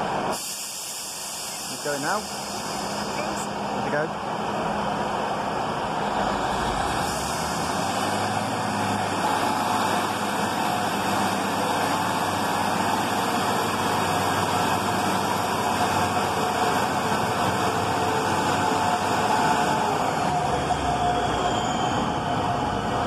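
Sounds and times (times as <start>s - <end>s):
diesel railcar engines running: 0.0s - 23.0s.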